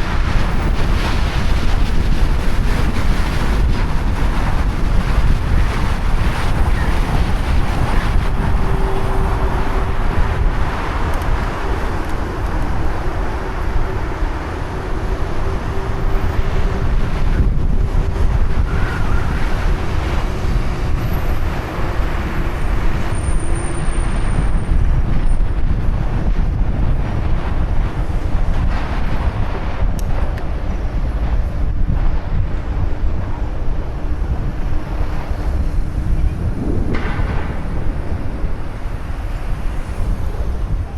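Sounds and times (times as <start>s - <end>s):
road traffic: 0.0s - 40.9s
wind rumble on microphone: 0.0s - 40.9s.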